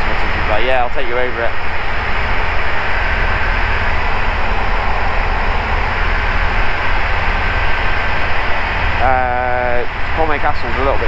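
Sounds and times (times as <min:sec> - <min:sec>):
aircraft engine and propeller drone: 0:00.0 - 0:11.0
rushing air noise: 0:00.0 - 0:11.0.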